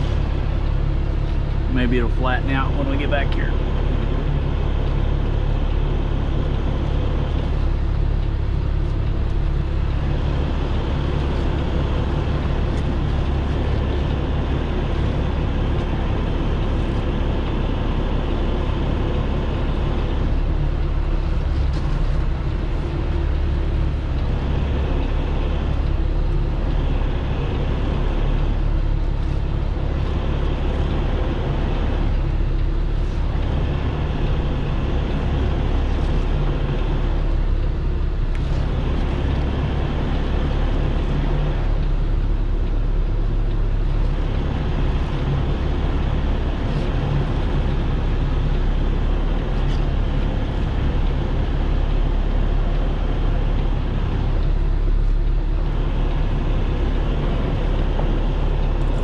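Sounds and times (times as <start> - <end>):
diesel engine low drone: 0.0 - 59.0.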